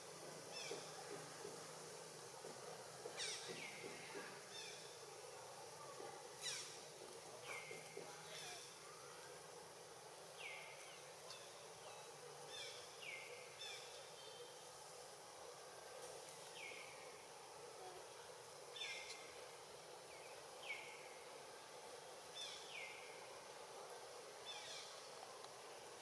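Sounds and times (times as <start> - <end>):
faint outdoor ambience: 0.0 - 26.0.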